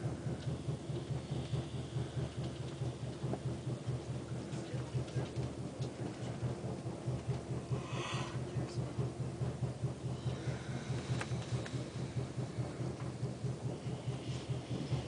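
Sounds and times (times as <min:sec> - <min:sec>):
train car rumbling on track: 0:00.0 - 0:15.0.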